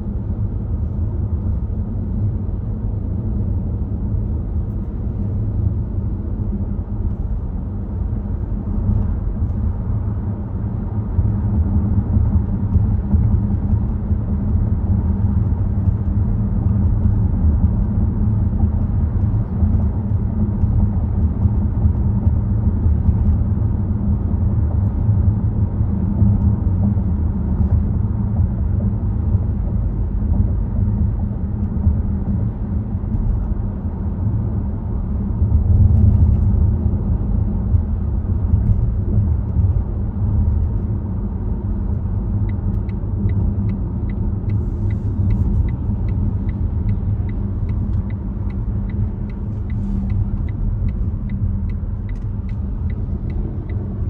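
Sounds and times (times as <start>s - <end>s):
car engine: 0.0s - 54.0s
road and tyre noise: 0.0s - 54.0s.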